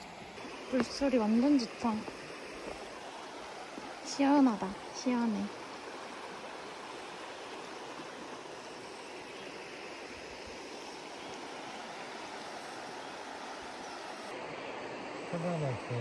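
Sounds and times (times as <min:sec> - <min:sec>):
creek running over rocks: 0:00.0 - 0:16.0.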